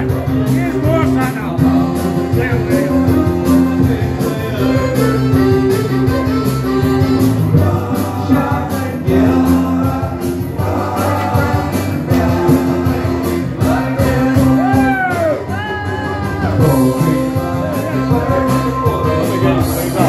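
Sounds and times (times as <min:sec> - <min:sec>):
loud music with singer: 0:00.0 - 0:20.0.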